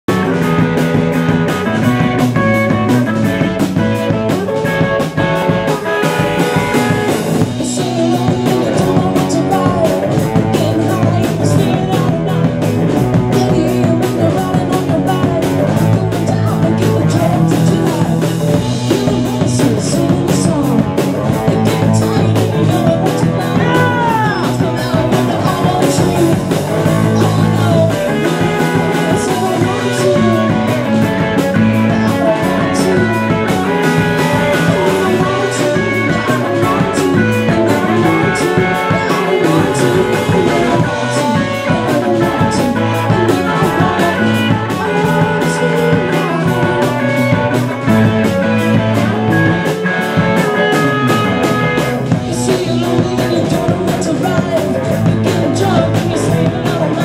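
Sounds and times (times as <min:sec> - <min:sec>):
drum kit beat: 0:00.0 - 0:57.0
electric guitar: 0:00.0 - 0:57.0
woman singing: 0:06.2 - 0:57.0.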